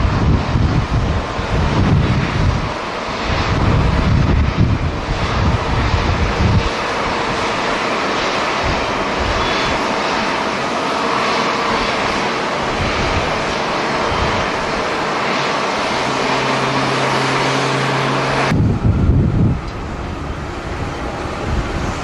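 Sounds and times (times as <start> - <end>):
jet engines rushing: 0.0 - 22.0
wind buffeting microphone: 0.0 - 22.0.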